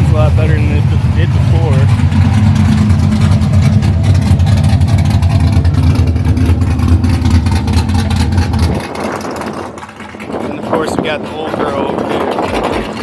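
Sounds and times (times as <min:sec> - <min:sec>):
v eight engine idling pulsing: 0:00.0 - 0:13.0.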